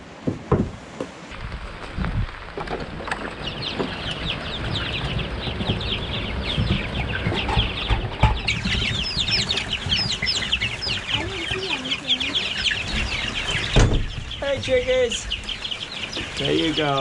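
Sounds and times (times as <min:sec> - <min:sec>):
chicks peeping: 0:01.3 - 0:17.0.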